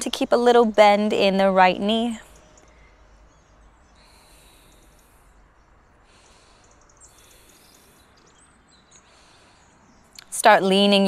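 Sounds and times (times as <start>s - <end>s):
faint bird chirps: 1.8s - 10.9s.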